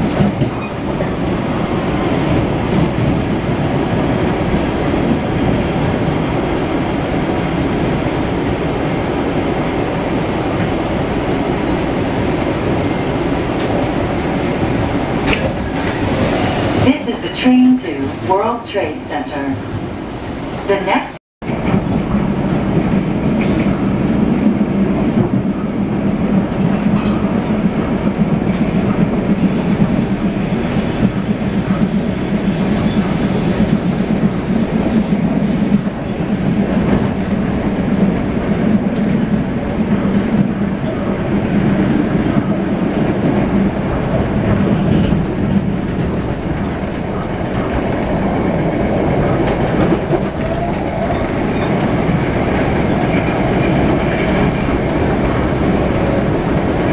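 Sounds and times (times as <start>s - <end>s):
train wheels rumbling on rails: 0.0s - 18.6s, 19.3s - 56.9s.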